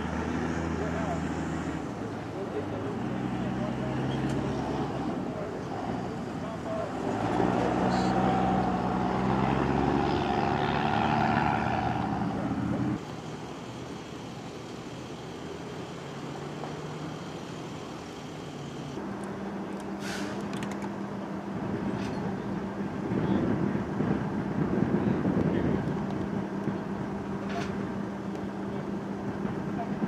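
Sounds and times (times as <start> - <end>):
idling vehicles humming: 0.0 - 30.0
passing traffic: 0.0 - 30.0
truck engine passing: 0.0 - 30.0.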